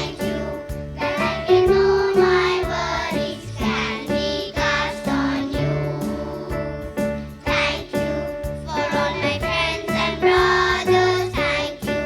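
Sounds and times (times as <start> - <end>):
children singing: 0.0 - 11.9
instrumental accompaniment with beat: 0.0 - 12.0.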